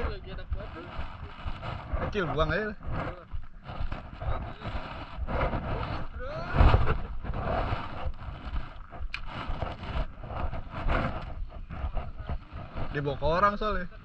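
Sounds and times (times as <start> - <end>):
loud rumbling burst: 0.0 - 13.9
wind buffeting microphone: 0.0 - 14.0.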